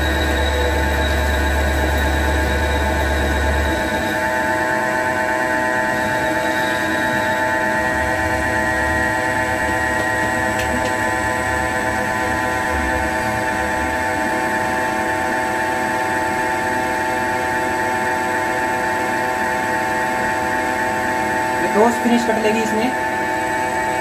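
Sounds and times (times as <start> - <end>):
lathe cutting metal whine: 0.0 - 24.0
low machine hum: 0.0 - 24.0.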